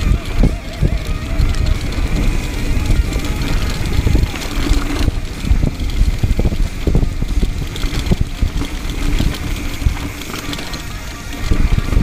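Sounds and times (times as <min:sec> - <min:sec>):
bike knocks and rattles: 0:00.0 - 0:12.0
low rumble: 0:00.0 - 0:12.0
tyres rolling over dirt and rocks: 0:00.0 - 0:12.0.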